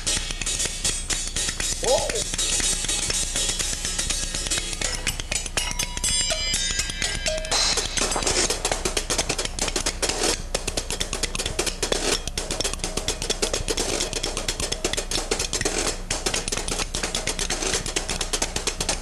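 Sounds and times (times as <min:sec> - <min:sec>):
washboard and spoons rhythm: 0:00.0 - 0:19.0.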